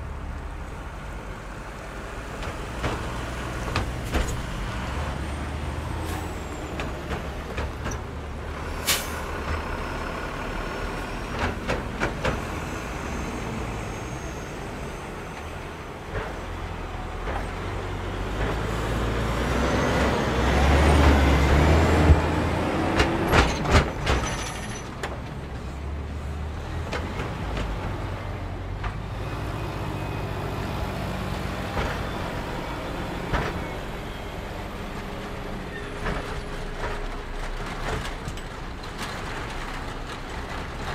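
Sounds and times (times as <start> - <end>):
vehicles engine rumble: 0.0 - 40.9.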